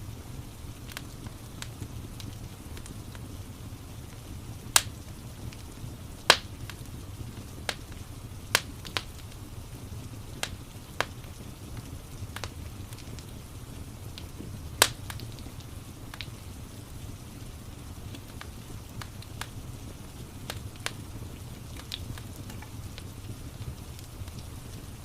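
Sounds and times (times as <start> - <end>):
rain hissing: 0.0 - 25.0
wood fire crackling: 0.0 - 25.0.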